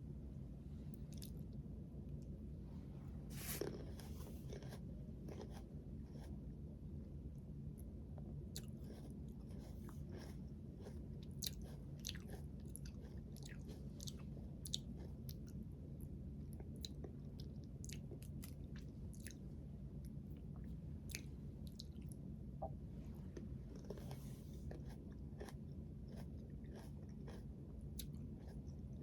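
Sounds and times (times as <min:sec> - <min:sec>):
low steady hum: 0:00.0 - 0:29.0
person chewing food: 0:01.0 - 0:01.5, 0:03.3 - 0:06.4, 0:08.4 - 0:15.6, 0:16.4 - 0:29.0.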